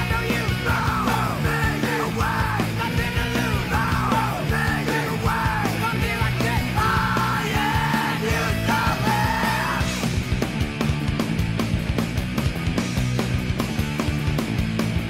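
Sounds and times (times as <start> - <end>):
rock music with vocals: 0.0 - 15.0.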